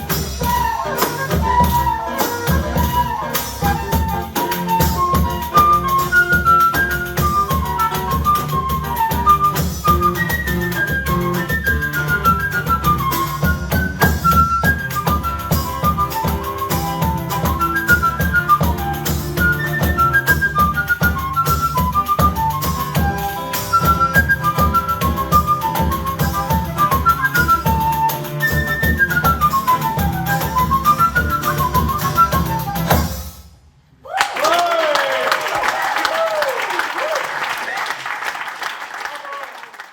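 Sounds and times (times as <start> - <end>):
guitar: 0.0 - 33.2
flute playing quick melody: 0.0 - 33.5
percussion: 0.0 - 33.7.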